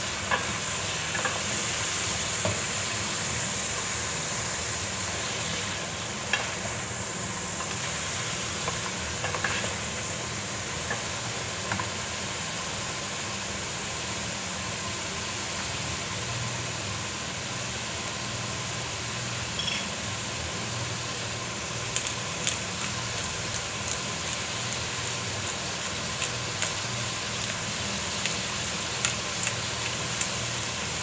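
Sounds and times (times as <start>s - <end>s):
meat sizzling in a pot: 0.0s - 31.0s.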